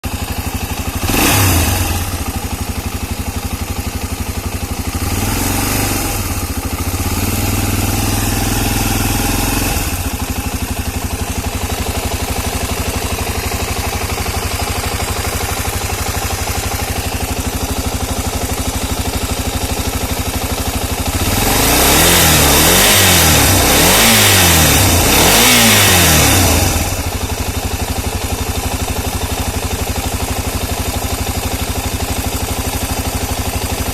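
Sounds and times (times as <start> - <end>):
knocking engine revving: 0.0 - 33.9.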